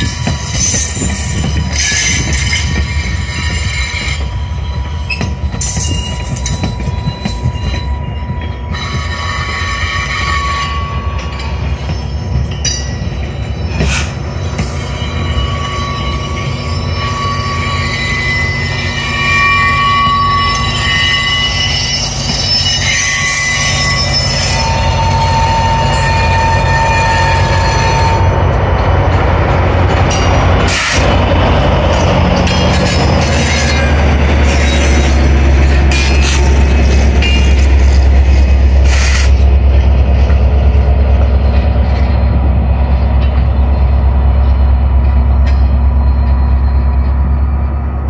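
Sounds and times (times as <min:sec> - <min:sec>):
diesel locomotive engine drone: 0:00.0 - 0:48.0
train wheels squealing: 0:00.0 - 0:48.0.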